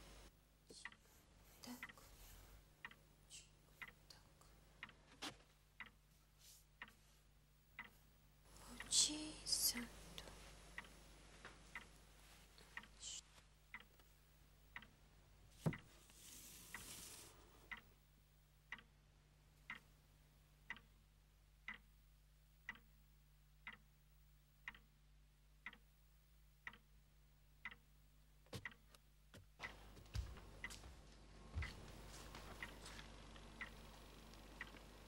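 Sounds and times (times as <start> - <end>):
faint clock ticking: 0.0 - 35.0.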